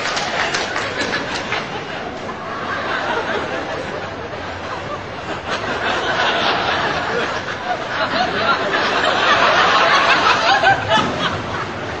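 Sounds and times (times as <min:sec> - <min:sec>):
studio audience laughing: 0:00.2 - 0:12.0.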